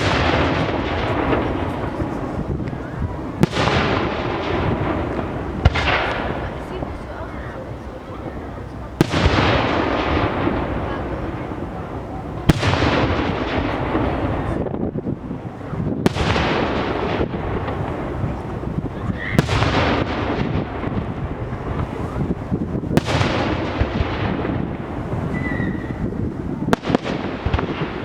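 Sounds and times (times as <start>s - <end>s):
firework crackle and echo: 0.0s - 28.0s.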